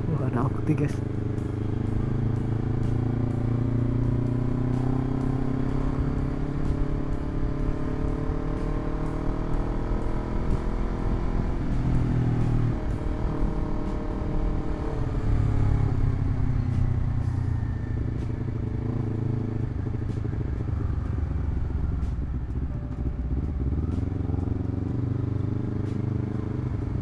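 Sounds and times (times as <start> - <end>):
motorcycle engine at low speed: 0.0 - 27.0.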